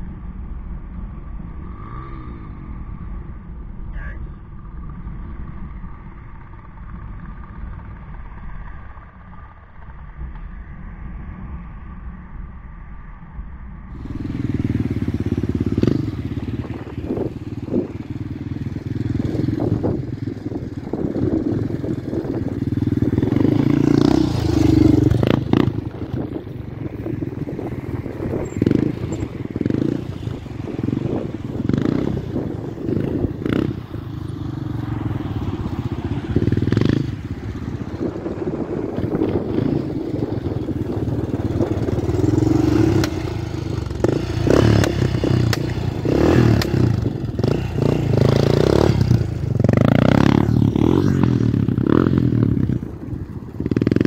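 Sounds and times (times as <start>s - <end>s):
motorcycle engines revving: 0.0s - 12.4s, 13.8s - 54.0s.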